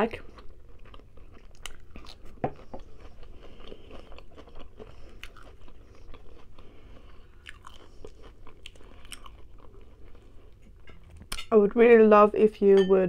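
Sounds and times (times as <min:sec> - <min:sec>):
close-up chewing: 0:00.0 - 0:11.4
food crunching: 0:00.0 - 0:11.5.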